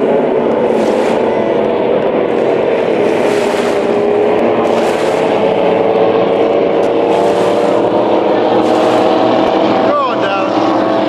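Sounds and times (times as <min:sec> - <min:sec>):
race boat engines droning: 0:00.0 - 0:11.0.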